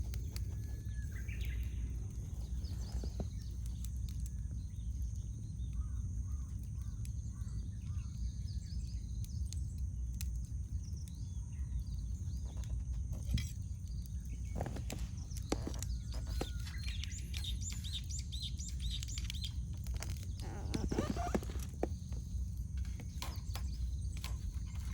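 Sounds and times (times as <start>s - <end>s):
wild birds singing: 0.0s - 24.9s
wood campfire crackling and popping: 0.0s - 24.9s.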